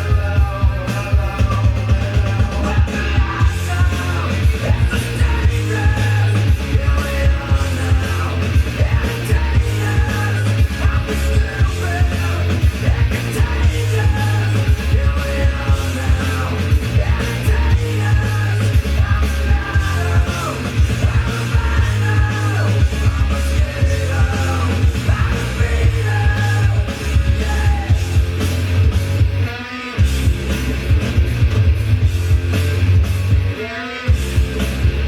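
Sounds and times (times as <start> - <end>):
heavy bass: 0.0 - 35.0
rock music with sung vocals: 0.0 - 35.0.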